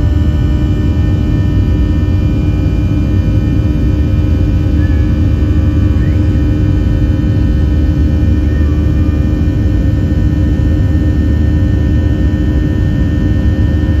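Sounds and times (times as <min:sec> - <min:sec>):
jet engines droning in cabin: 0:00.0 - 0:14.0.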